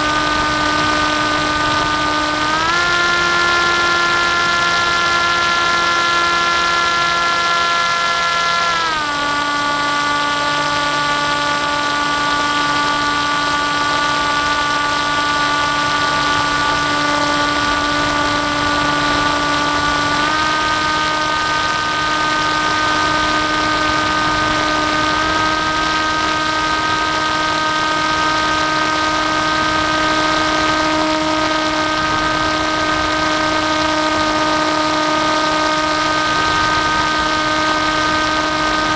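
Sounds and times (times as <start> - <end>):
model aircraft motor whine: 0.0 - 38.9.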